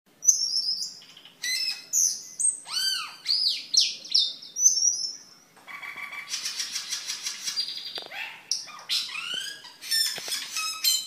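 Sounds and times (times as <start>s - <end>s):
starling singing whistled notes: 0.2s - 11.0s.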